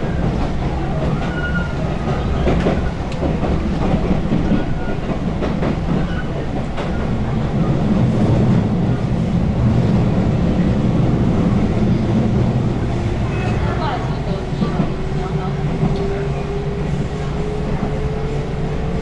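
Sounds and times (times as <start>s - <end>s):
rail joint clicks: 0.0s - 19.0s
rumble of train wheels on rail: 0.0s - 19.0s.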